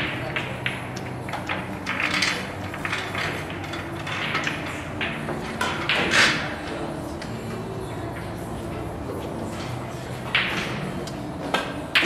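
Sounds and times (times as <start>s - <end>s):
billiard balls clacking: 0.0s - 12.0s.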